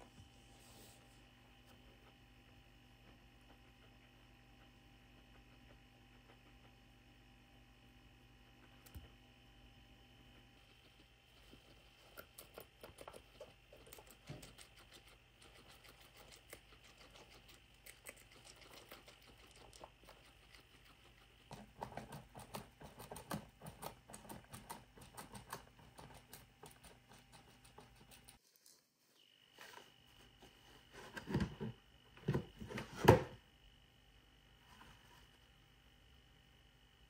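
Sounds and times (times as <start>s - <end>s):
guinea pigs nibbling leaves: 0.0s - 30.0s.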